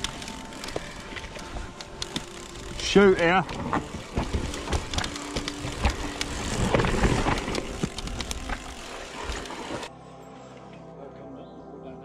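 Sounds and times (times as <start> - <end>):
bike knocking and rattling: 0.0 - 9.9
bike tyres on dirt trail: 0.0 - 9.9.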